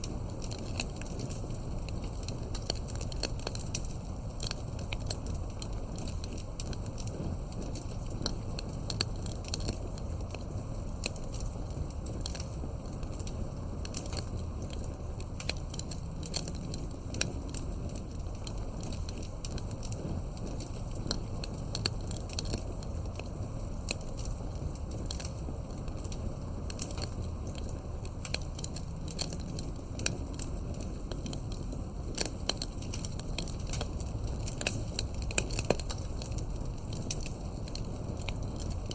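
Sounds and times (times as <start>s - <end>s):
burning wood crackling: 0.0s - 38.9s
low rush of flames: 0.0s - 38.9s.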